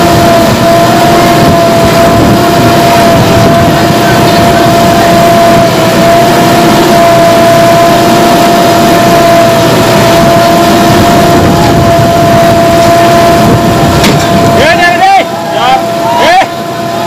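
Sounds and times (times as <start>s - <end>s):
diesel engine under load: 0.0s - 17.0s
hydraulic whine: 0.0s - 17.0s.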